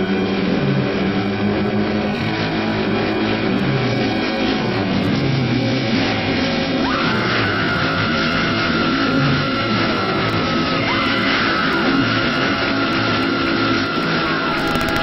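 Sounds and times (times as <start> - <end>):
droning eerie soundscape: 0.0 - 15.0.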